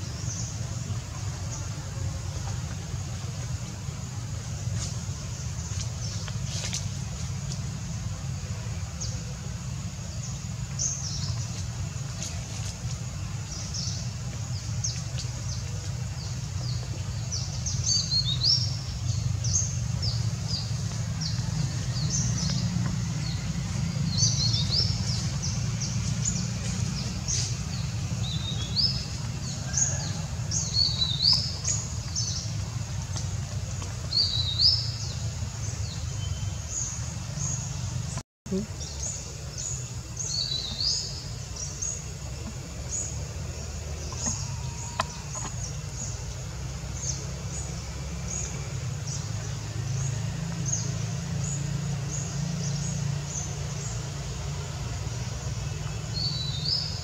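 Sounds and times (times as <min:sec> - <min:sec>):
birds chirping: 0:00.0 - 0:57.0
steady low rumble: 0:00.0 - 0:57.0.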